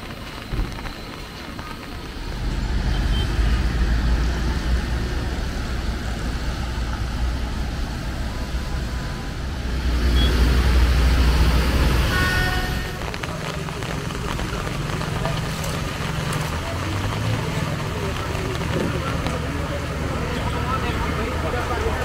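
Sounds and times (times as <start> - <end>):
tyre hiss on wet street: 0.0 - 22.0
vehicle engine rumble: 0.0 - 22.0.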